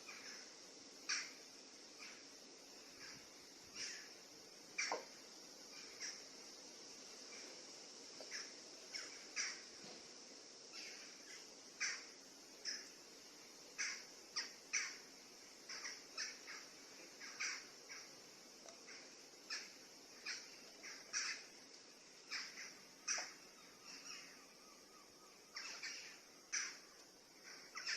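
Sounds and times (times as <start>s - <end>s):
forest birds calling: 0.0s - 27.9s
steady high hiss: 0.0s - 27.9s.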